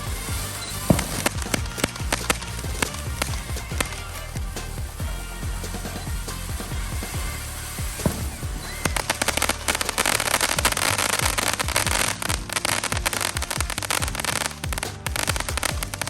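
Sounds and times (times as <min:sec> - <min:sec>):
background music: 0:00.0 - 0:16.0
firework thumps: 0:00.0 - 0:16.0
fireworks crackling pops: 0:00.0 - 0:16.0.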